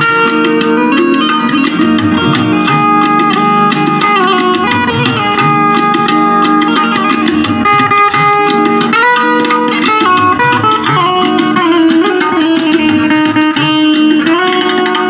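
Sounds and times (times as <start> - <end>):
banjo strings strummed: 0.0 - 15.0.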